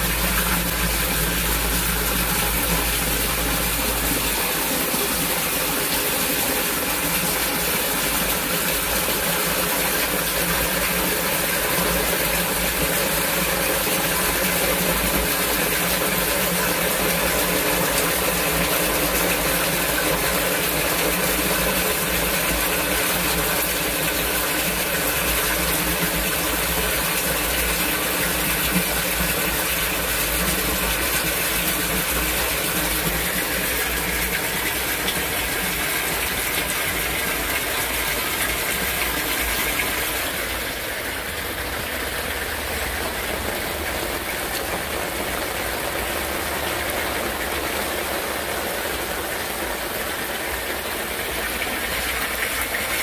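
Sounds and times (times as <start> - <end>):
rushing water: 0.0 - 53.0
sump pump humming: 0.0 - 53.0
torrential rain: 0.0 - 53.0.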